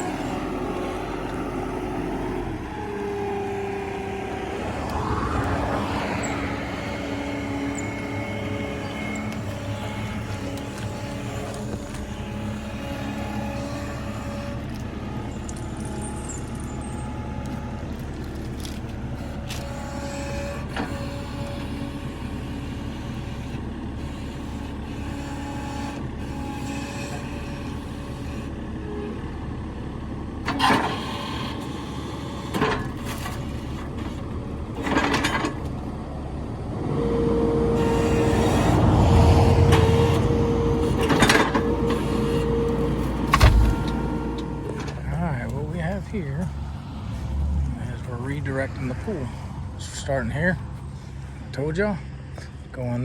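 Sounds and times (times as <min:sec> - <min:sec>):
engine running at low speed: 0:00.0 - 0:53.0.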